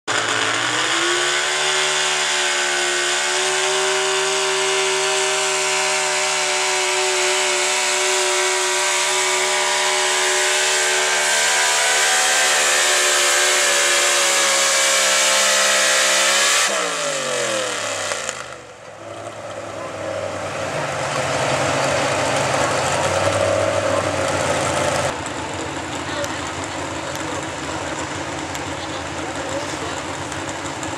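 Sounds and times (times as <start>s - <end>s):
pickup engine at full throttle: 0.0s - 30.9s.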